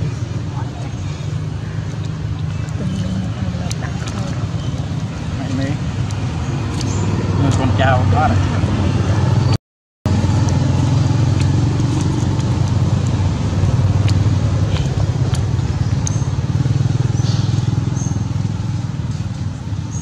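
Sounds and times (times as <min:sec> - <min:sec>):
low motor rumble: 0:00.0 - 0:20.0.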